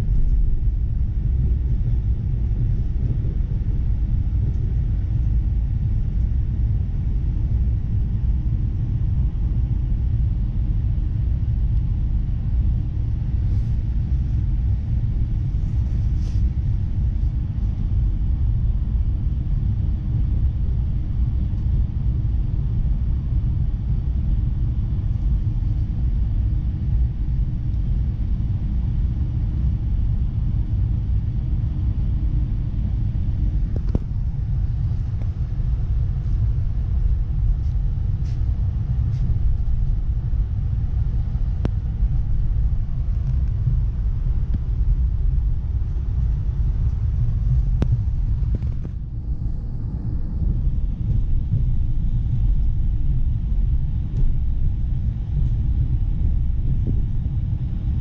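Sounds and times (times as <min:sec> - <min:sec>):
steady hum: 0:00.0 - 0:58.0
train low rumble: 0:00.0 - 0:58.0.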